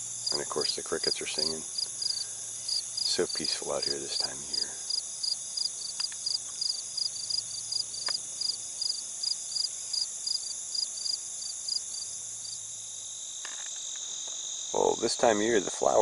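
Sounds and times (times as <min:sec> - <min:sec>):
cricket chirps pulsing: 0:00.0 - 0:16.0
crickets trilling: 0:00.0 - 0:16.0.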